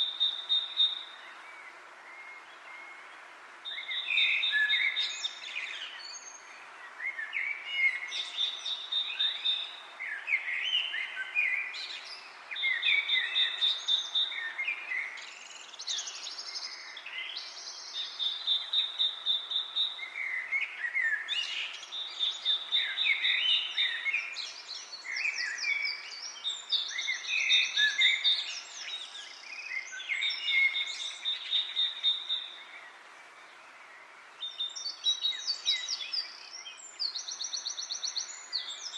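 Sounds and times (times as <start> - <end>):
wind in leaves: 0.0 - 38.9
birds chirping and singing: 3.7 - 38.9.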